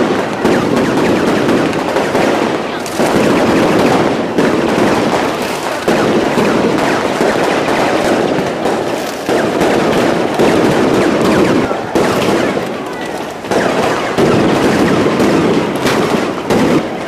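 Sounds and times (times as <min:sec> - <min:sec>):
firecrackers going off: 0:00.0 - 0:17.0.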